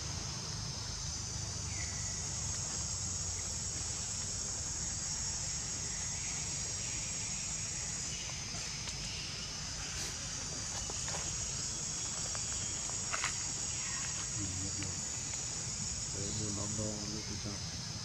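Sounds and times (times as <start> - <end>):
insects droning in trees: 0.0 - 18.0.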